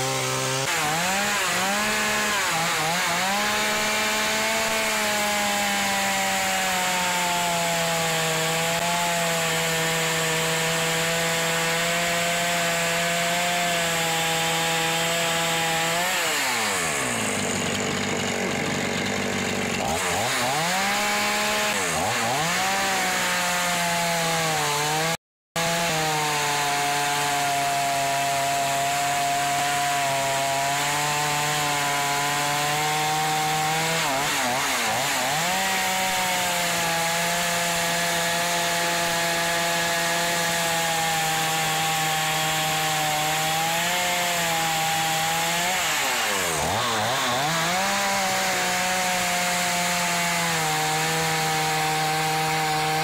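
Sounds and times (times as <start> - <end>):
chainsaw cutting logs: 0.0 - 53.0.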